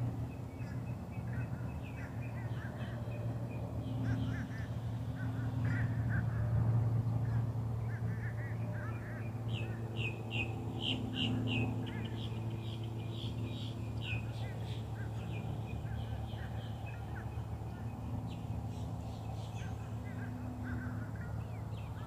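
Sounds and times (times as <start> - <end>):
steady low hum: 0.0 - 22.0
birds chirping and calling: 0.4 - 6.4, 7.2 - 22.0.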